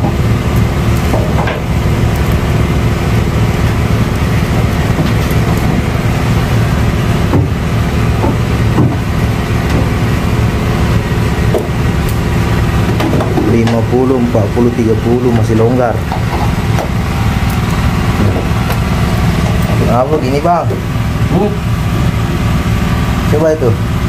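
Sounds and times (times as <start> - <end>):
engine running drone: 0.0 - 24.0.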